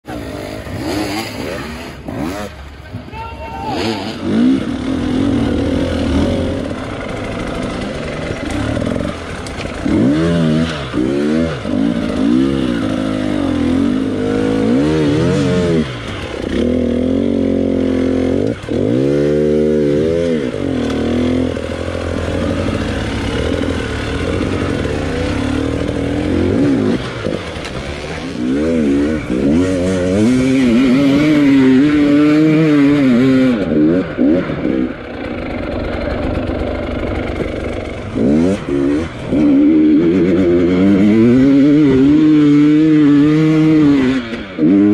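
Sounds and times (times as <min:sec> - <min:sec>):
dirt bike engine revving: 0:00.1 - 0:03.1, 0:03.7 - 0:44.9.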